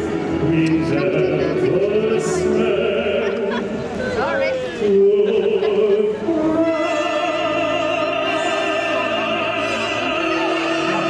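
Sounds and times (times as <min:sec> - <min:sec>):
male tenor singing opera: 0:00.3 - 0:03.8, 0:04.7 - 0:11.0.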